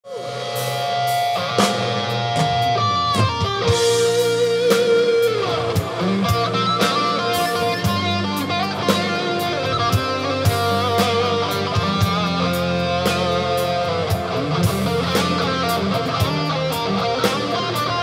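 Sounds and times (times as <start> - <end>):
electric guitars: 0.0 - 18.0
steady drum beat: 0.1 - 18.0.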